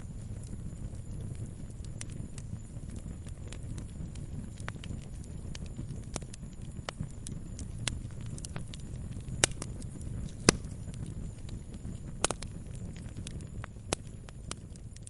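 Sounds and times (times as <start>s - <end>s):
wood fire crackling: 0.0s - 15.0s
sharp pops and snaps: 0.4s - 15.0s.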